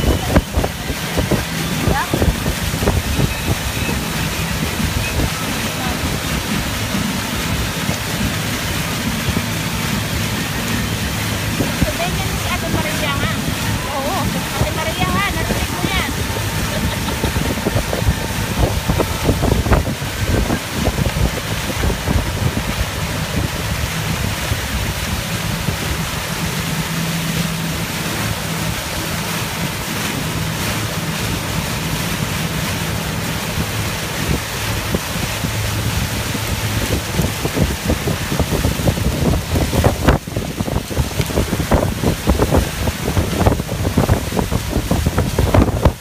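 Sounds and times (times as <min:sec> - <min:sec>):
churning wake water: 0:00.0 - 0:46.0
motorboat motor hum: 0:00.0 - 0:46.0
wind buffeting microphone: 0:00.0 - 0:46.0.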